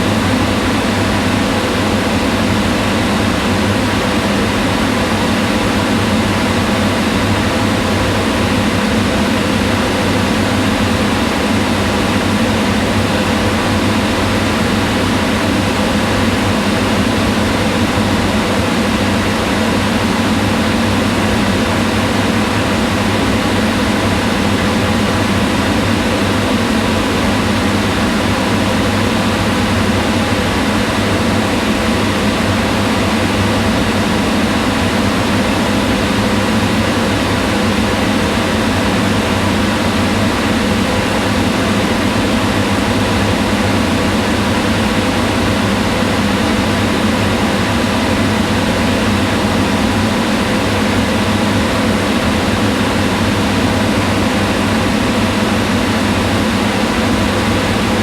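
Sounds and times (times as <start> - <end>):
range hood fan rushing air: 0.0 - 58.0.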